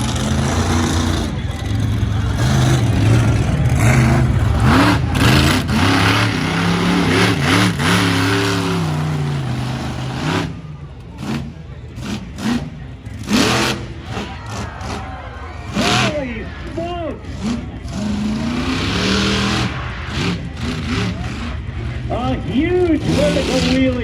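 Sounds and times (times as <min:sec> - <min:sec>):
engine throttle blips: 0:00.0 - 0:24.0
truck engine revving: 0:00.0 - 0:24.0.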